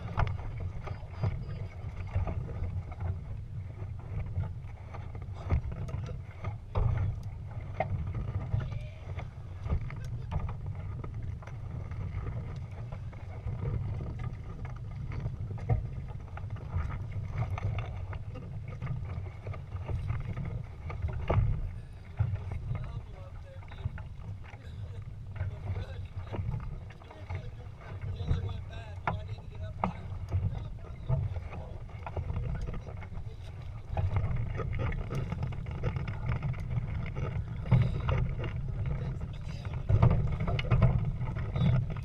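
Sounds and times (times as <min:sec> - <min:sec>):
boat knocks: 0:00.0 - 0:42.0.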